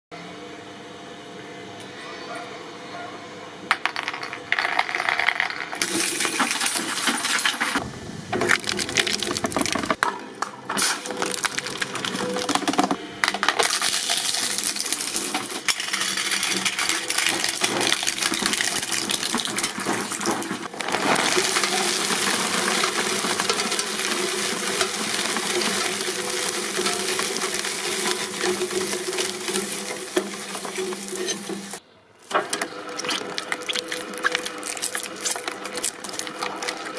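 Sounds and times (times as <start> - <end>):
press machine crushing objects: 5.6 - 36.9.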